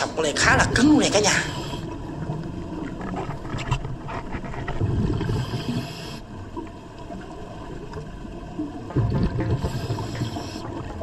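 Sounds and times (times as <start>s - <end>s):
exhaled bubbles underwater: 0.0s - 11.0s.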